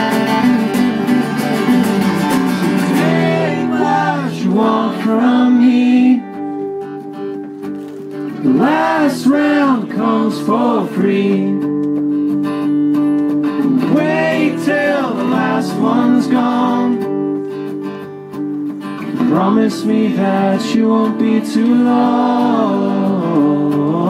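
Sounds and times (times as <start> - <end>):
bass guitar: 0.0 - 21.0
acoustic guitars strummed: 0.0 - 24.0.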